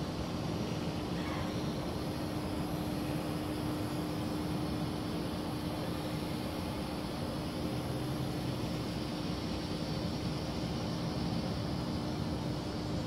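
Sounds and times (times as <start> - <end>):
drone hovering hum: 0.0 - 13.0
outdoor noise: 0.0 - 13.0.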